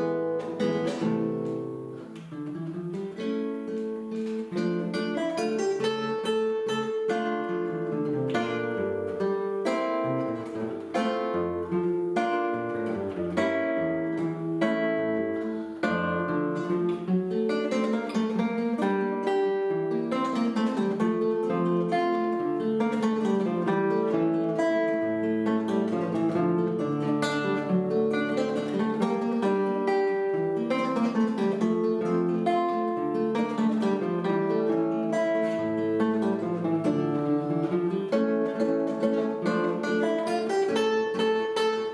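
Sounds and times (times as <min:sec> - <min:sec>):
plucked string duet: 0:00.0 - 0:41.9
strummed chords: 0:00.0 - 0:41.9.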